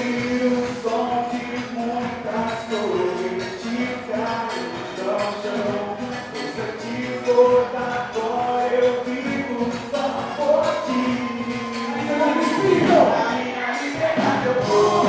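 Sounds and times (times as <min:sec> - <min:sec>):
band playing worship song: 0:00.0 - 0:15.0
person singing: 0:00.0 - 0:15.0.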